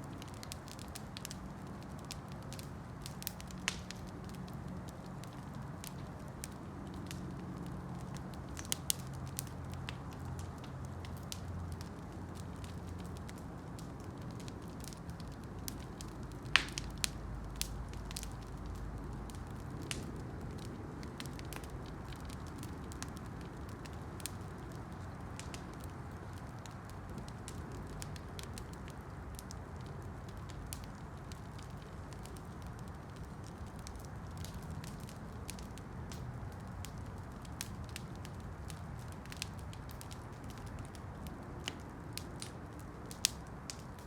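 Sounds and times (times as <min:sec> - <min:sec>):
campfire flames rushing: 0:00.0 - 0:44.0
fire crackling and popping: 0:00.0 - 0:44.0.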